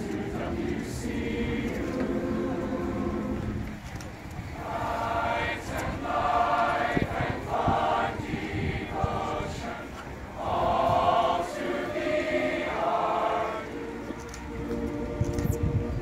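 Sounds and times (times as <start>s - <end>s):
group singing in slow held phrases: 0.0s - 3.8s, 4.6s - 15.2s.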